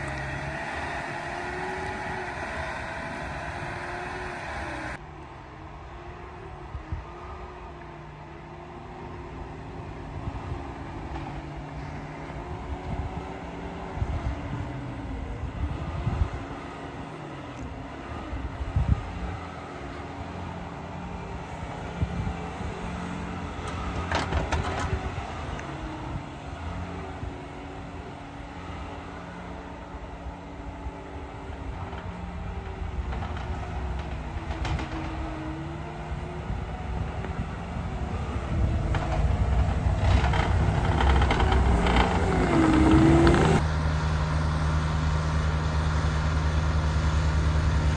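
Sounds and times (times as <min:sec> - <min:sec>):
large engine rumbling: 0:00.0 - 0:05.1, 0:09.5 - 0:47.9.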